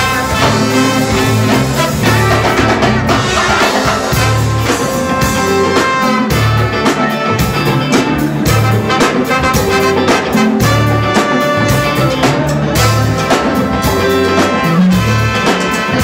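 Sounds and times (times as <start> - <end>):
funk band playing: 0.0 - 16.0
horn section: 0.0 - 16.0.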